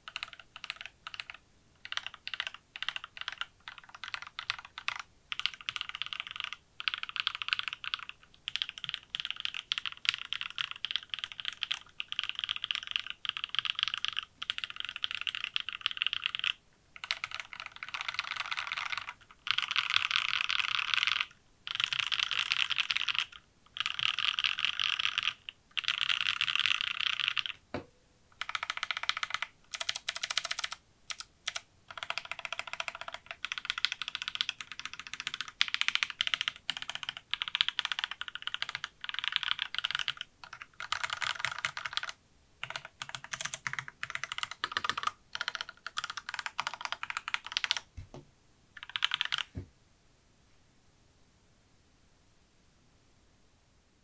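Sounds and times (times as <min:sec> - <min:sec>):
mechanical keyboard typing: 0:00.0 - 0:27.6, 0:28.4 - 0:47.9, 0:48.8 - 0:49.6.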